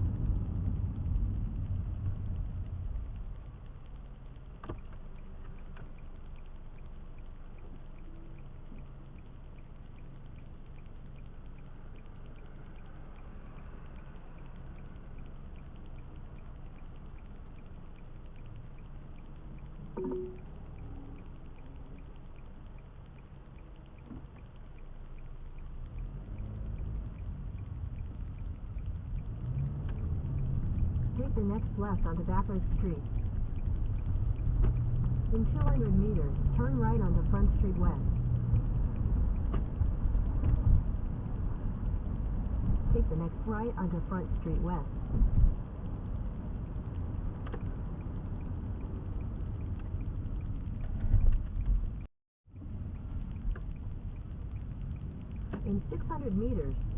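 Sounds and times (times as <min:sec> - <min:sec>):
car engine and tyre rumble: 0:00.0 - 0:56.9
faint regular ticking: 0:00.0 - 0:56.9.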